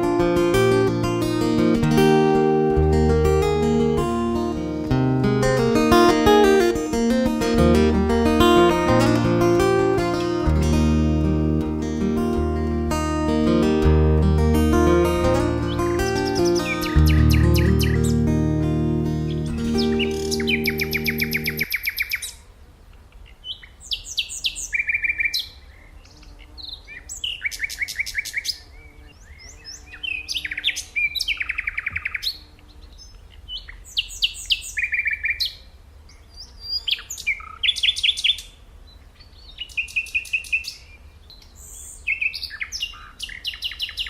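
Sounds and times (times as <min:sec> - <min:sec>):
songbird singing: 0:00.0 - 0:22.4, 0:23.2 - 0:44.0.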